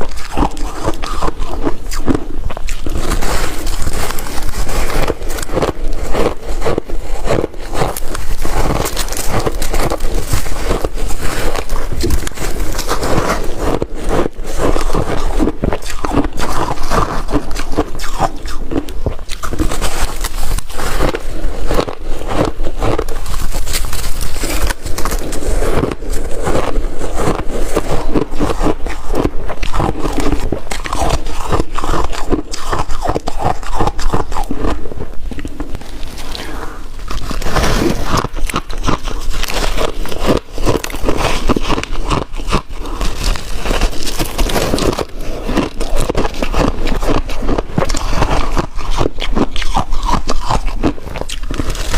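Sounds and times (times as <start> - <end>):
person crunching shaved ice: 0.0 - 51.9.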